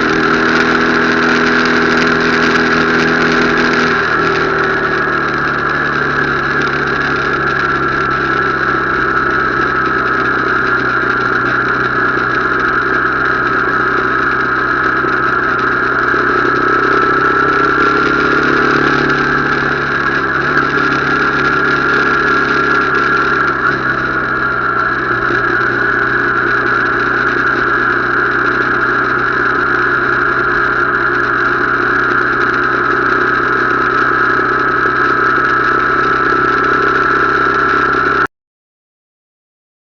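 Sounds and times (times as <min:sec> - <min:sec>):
motorcycle engine running: 0:00.0 - 0:38.3.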